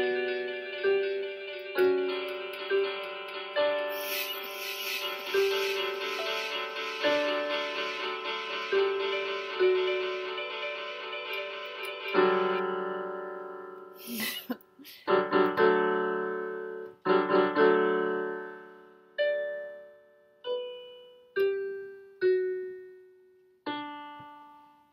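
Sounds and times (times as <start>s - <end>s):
electronic keyboard piano notes: 0.0s - 14.2s, 15.1s - 23.0s, 23.6s - 24.9s.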